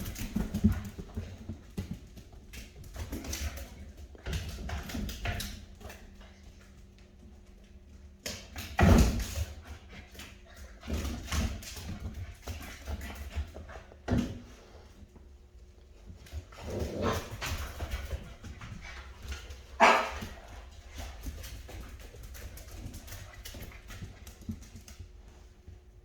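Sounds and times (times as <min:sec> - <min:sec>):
paws scuffling and tapping: 0:00.0 - 0:26.0.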